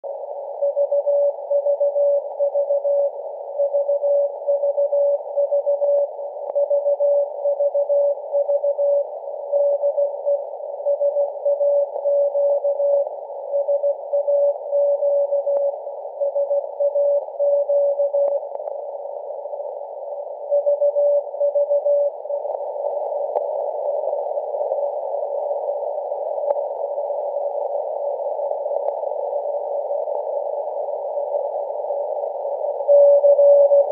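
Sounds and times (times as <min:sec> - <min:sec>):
receiver hiss: 0:00.0 - 0:33.9.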